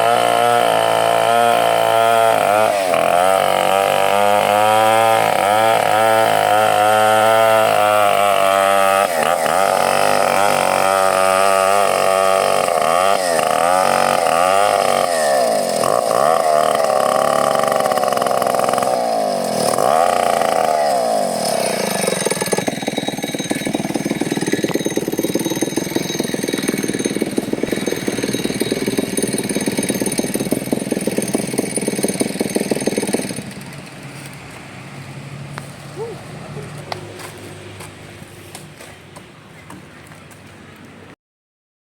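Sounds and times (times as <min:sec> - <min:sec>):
chainsaw engine revving: 0:00.0 - 0:34.5.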